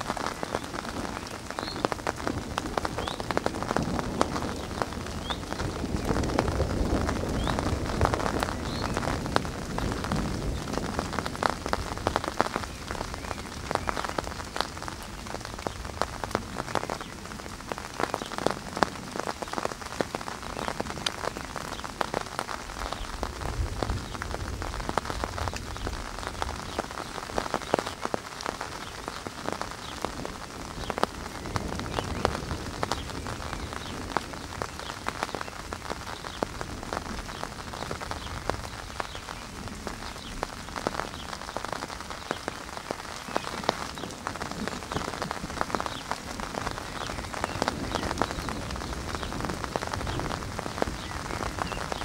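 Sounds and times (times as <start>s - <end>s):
heavy rain spattering: 0.0s - 52.0s.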